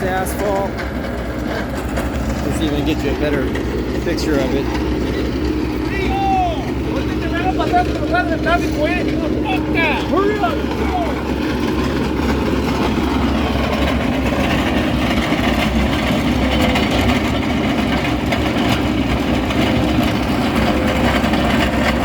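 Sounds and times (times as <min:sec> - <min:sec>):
diesel engine heavy rumble: 0:00.0 - 0:22.0
faint irregular clatter: 0:00.0 - 0:22.0.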